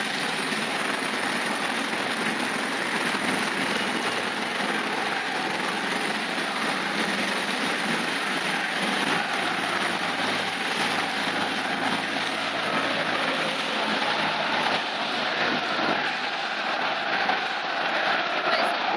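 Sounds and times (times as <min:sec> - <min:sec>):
helicopter rotor and turbine: 0:00.0 - 0:15.8.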